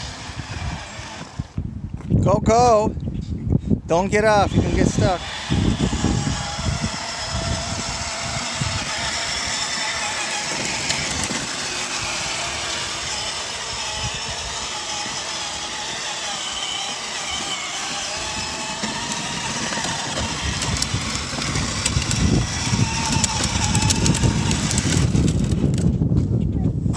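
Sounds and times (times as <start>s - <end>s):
plastic wheels on wet pavement: 0.0s - 1.6s, 4.5s - 26.0s
toy motorcycle electric motor whine: 0.0s - 1.6s, 4.2s - 26.0s.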